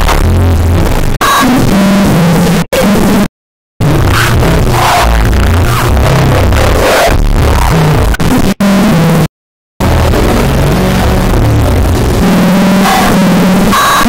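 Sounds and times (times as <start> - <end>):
distorted music-like effects: 0.0 - 14.0.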